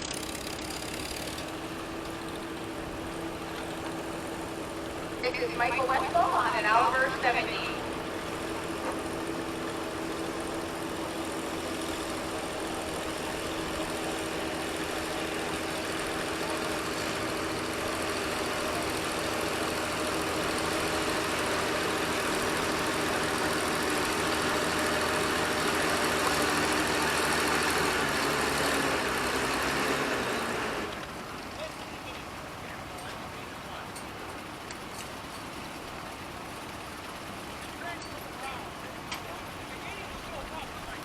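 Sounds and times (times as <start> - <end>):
tractor engine under load: 0.0 - 41.0.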